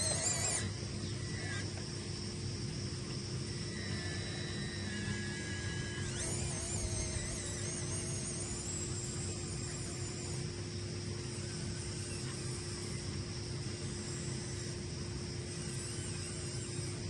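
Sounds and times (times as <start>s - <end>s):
small electric motor whirring: 0.0s - 17.0s.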